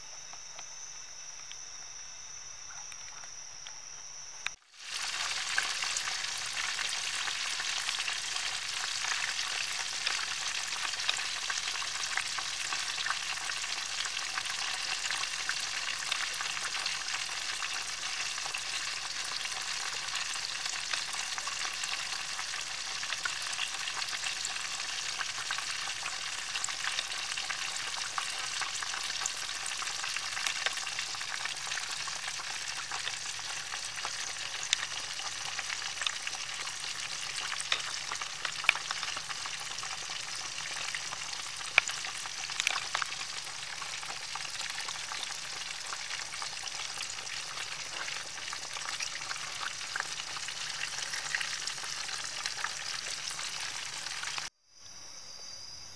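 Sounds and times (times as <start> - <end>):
chicken sizzling in hot oil: 4.6 - 54.5.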